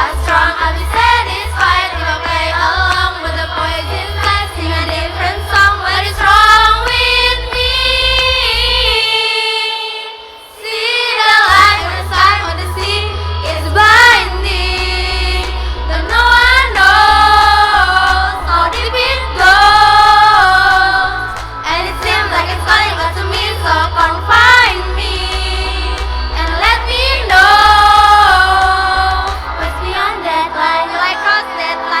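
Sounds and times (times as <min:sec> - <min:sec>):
low backing accompaniment: 0:00.0 - 0:09.0, 0:11.5 - 0:32.0
choir of young voices singing: 0:00.0 - 0:32.0.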